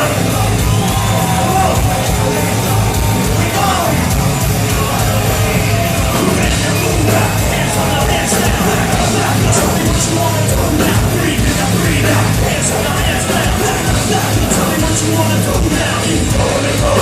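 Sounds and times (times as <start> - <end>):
crowd shouting: 0.0 - 17.0
rap-metal band playing: 0.0 - 17.0.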